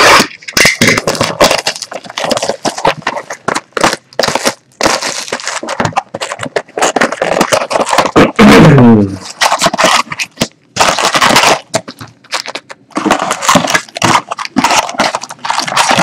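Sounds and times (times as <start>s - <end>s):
shrink wrap crinkling and tearing: 0.0s - 16.0s.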